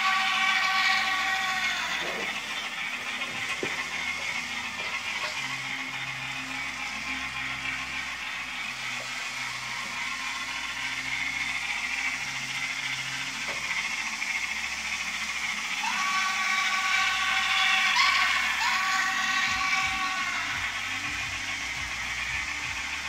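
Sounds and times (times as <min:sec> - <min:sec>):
high squealing whine: 0:00.0 - 0:23.0
model train whirring and rattling: 0:00.0 - 0:23.0.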